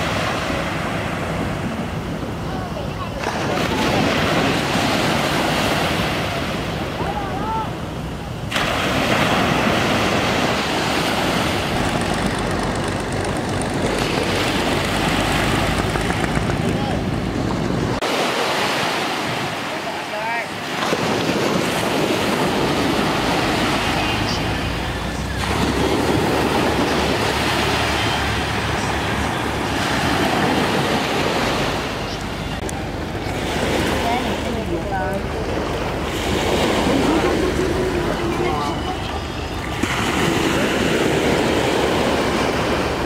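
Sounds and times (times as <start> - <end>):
small waves washing up beach: 0.0 - 43.0
wind rumbling on microphone: 0.0 - 43.0.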